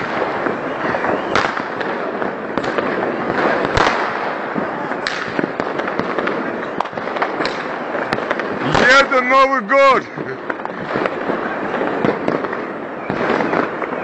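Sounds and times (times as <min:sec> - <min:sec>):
firework bangs: 0:00.0 - 0:14.0
fireworks crackling and popping: 0:00.0 - 0:14.0.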